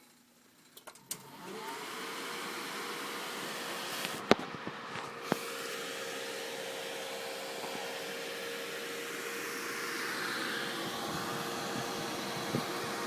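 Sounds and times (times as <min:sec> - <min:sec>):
computer fans whirring: 0:01.2 - 0:13.0.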